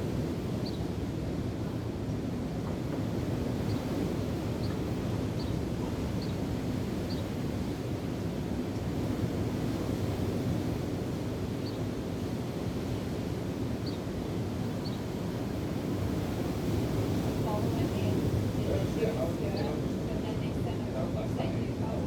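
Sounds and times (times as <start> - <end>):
waves: 0.0 - 22.0.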